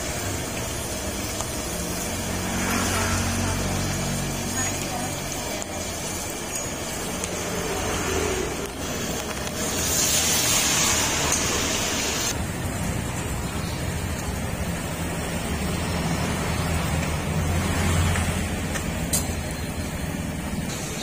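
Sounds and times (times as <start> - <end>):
hot oil sizzling: 0.0 - 21.0.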